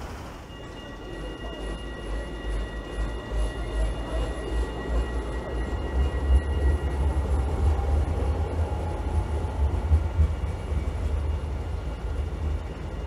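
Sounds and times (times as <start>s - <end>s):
underground train rumbling: 0.0s - 13.0s.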